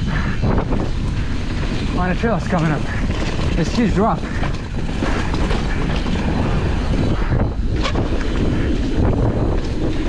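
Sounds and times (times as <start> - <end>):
mountain bike rattling on dirt trail: 0.0 - 10.0
wind rushing over microphone: 0.0 - 10.0.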